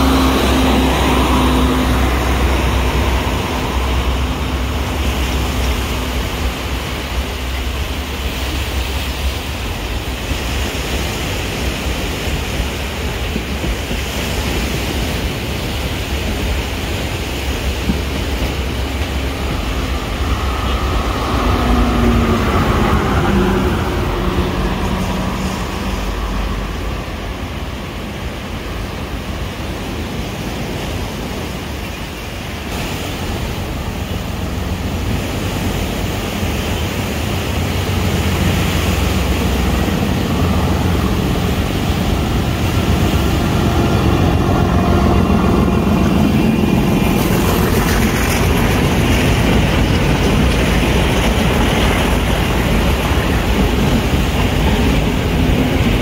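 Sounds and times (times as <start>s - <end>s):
diesel train rumbling past: 0.0s - 56.0s.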